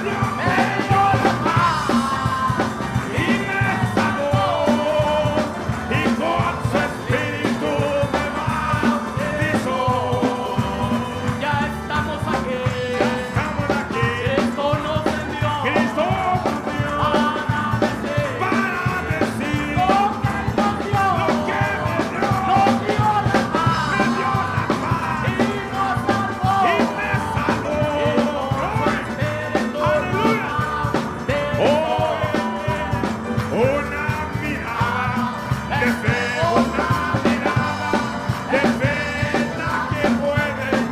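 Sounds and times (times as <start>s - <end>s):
drums beating: 0.0s - 40.9s
gospel band playing: 0.0s - 40.9s.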